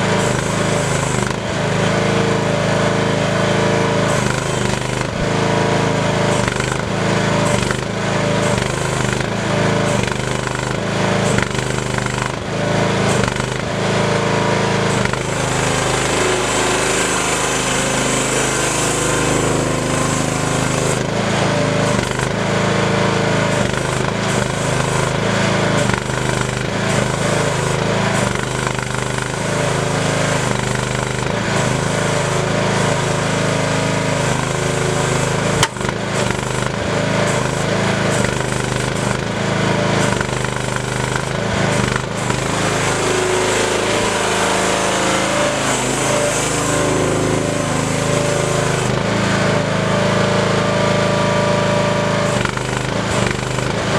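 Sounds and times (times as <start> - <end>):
mini excavator engine clattering: 0.0 - 53.9.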